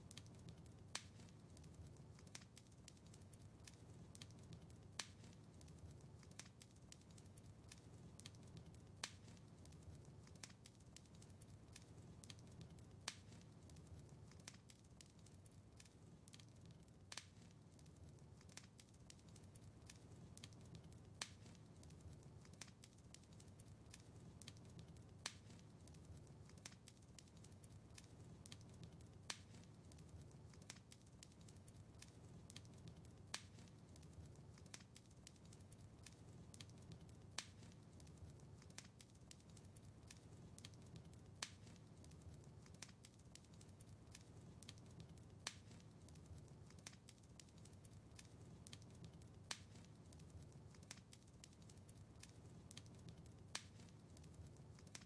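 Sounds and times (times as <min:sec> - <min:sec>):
wood fire crackling faintly: 0:00.0 - 0:55.0.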